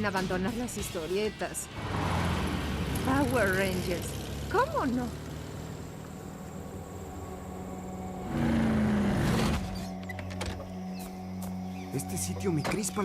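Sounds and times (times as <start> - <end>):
vehicle engine rumble: 1.7 - 13.0.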